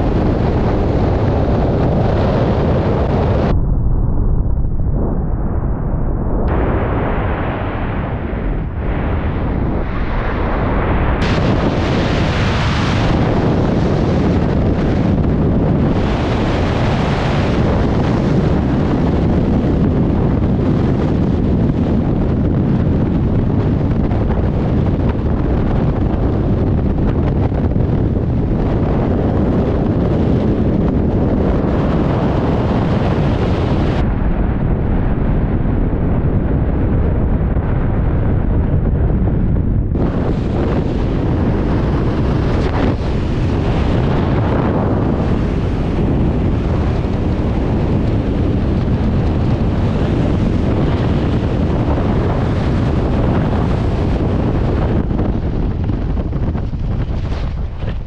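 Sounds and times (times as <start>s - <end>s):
loud rush of wind: 0.0s - 58.0s.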